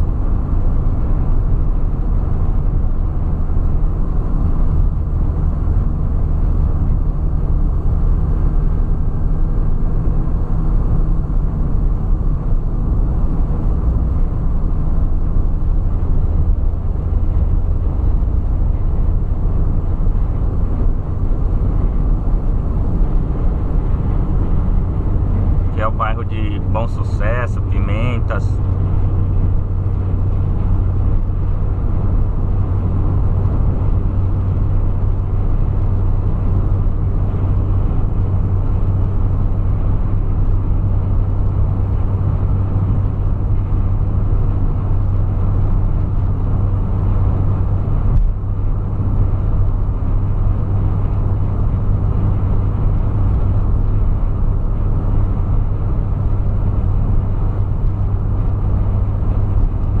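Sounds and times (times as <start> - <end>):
car cabin road noise: 0.0 - 60.0.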